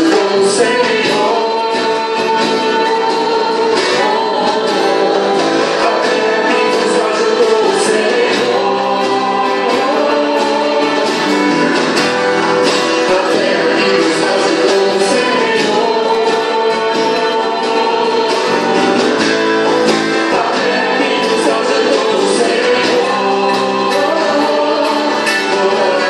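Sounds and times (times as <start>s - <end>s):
gospel vocal group singing: 0.0s - 26.0s
guitar accompaniment: 0.0s - 26.0s.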